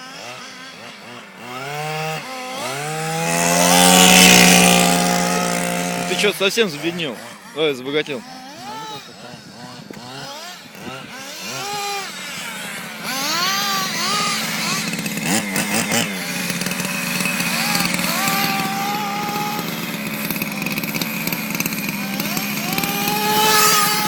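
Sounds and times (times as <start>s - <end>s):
rc car nitro engines revving: 0.0s - 24.0s.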